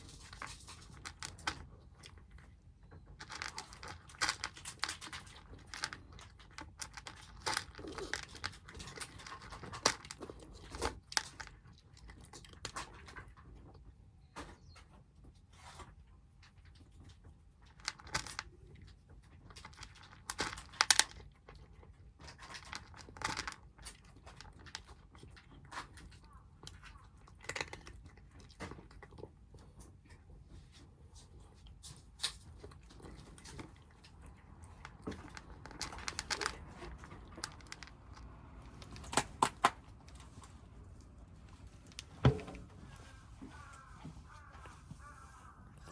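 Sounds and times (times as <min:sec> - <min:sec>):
kittens eating crunches: 0:00.0 - 0:45.9.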